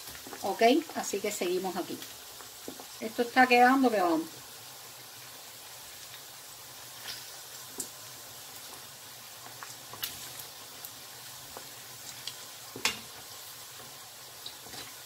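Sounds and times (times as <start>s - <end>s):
pork deep-frying in hot oil: 0.0s - 15.0s.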